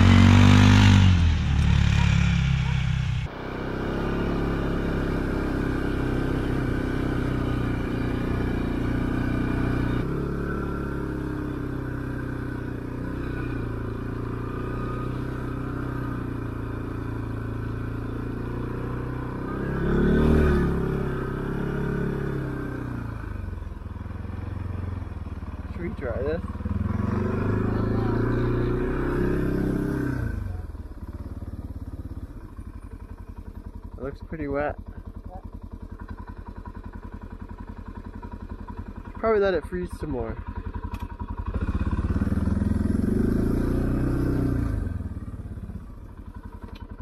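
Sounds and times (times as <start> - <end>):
engine revving: 0.0 - 32.4, 38.2 - 47.0
atv engine running: 0.0 - 47.0.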